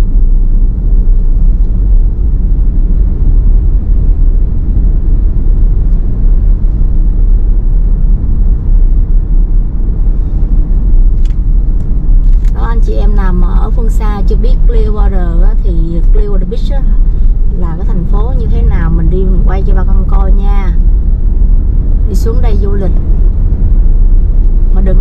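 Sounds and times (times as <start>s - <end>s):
car road and wind noise: 0.0s - 25.0s.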